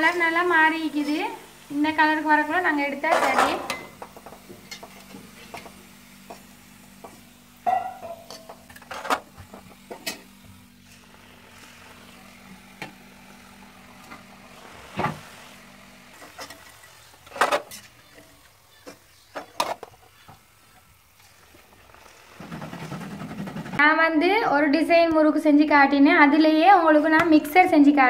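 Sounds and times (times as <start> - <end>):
hot oil sizzling: 0.0 - 23.8.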